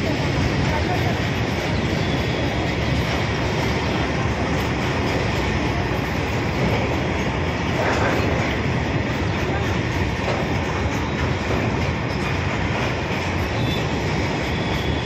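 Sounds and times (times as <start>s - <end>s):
steel wheels running on rails: 0.0s - 15.0s.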